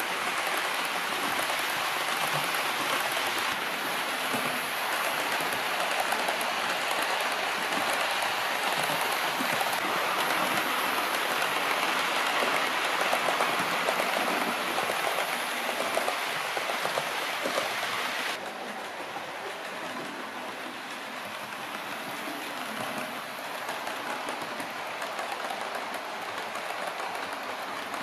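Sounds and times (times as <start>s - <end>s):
model trains rattling on track: 0.0s - 28.0s.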